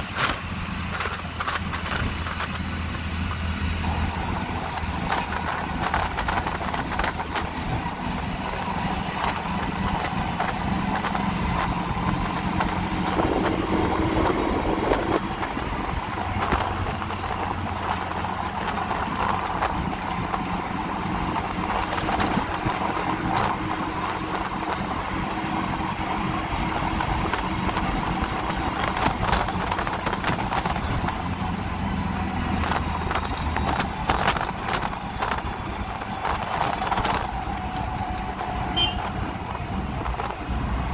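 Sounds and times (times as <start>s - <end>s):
auto-rickshaw engine running: 0.0s - 40.9s
road and wind noise: 0.0s - 40.9s.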